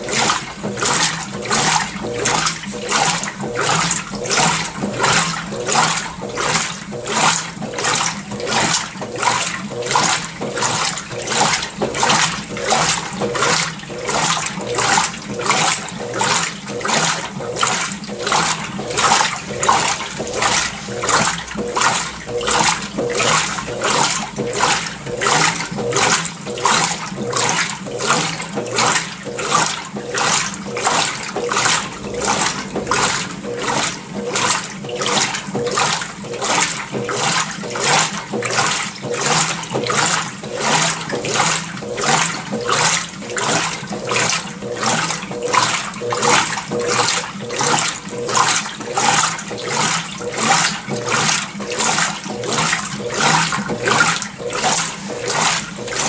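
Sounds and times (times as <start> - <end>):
washing machine water swishes: 0.0 - 56.0.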